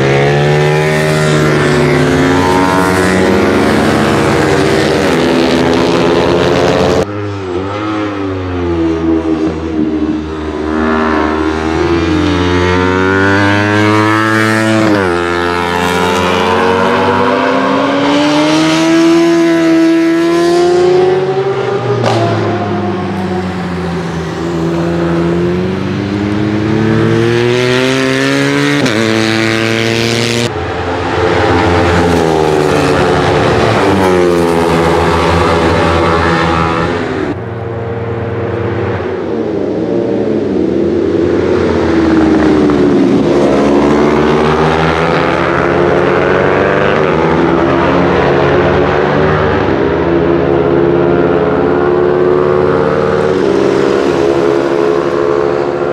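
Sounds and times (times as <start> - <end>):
racing motorcycles accelerating: 0.0 - 55.9.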